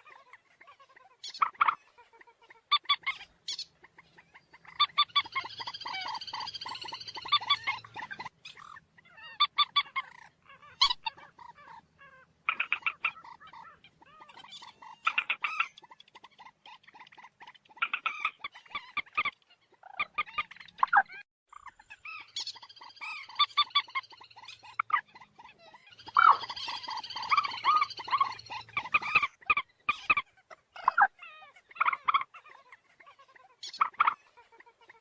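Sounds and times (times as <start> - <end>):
moorhen clucking calls: 0.0 - 35.0.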